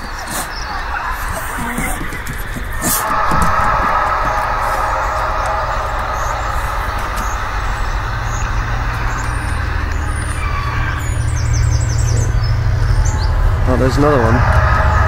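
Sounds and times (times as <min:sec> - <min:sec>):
deep steady rumble: 0:00.0 - 0:15.0
eerie groaning drone: 0:00.0 - 0:15.0.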